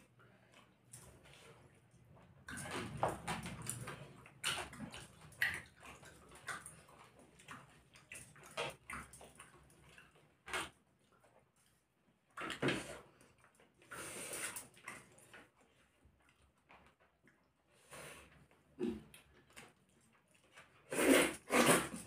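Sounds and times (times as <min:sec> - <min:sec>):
wet chewing and hand mixing food: 0:00.0 - 0:22.0.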